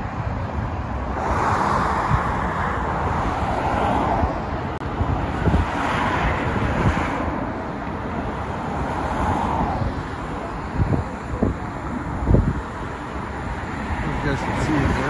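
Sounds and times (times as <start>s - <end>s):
highway traffic: 0.0s - 15.0s
wind on microphone: 0.0s - 15.0s.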